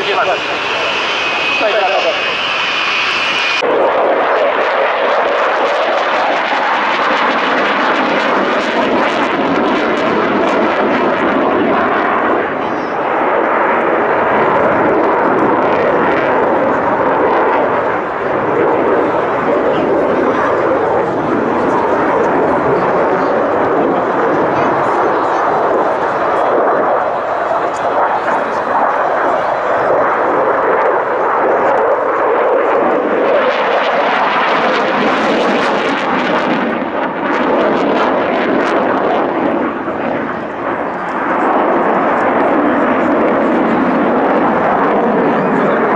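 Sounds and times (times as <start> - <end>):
aircraft engine rushing: 0.0 - 45.9.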